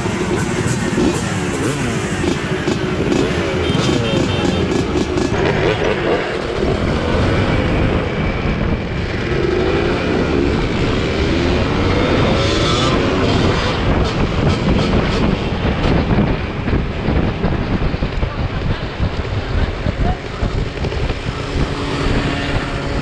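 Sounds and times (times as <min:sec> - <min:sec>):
motorcycle engines revving: 0:00.0 - 0:23.0
steady rush of noise: 0:00.0 - 0:23.0.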